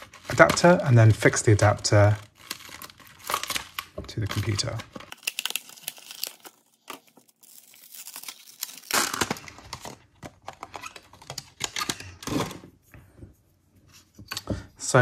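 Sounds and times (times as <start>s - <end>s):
plastic tray crinkling: 0.0s - 12.6s.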